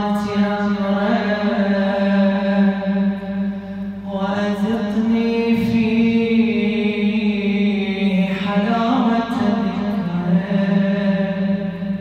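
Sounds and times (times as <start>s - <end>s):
man chanting: 0.0s - 3.1s, 4.0s - 12.0s.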